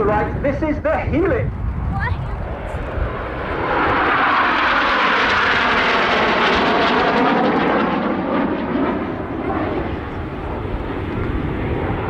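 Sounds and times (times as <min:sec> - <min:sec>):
jets passing with loud rush: 0:00.0 - 0:12.0.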